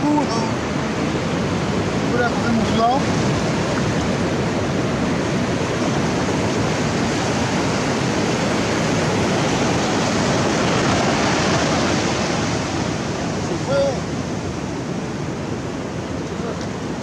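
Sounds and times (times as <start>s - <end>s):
ocean surf on sandy beach: 0.0s - 17.0s.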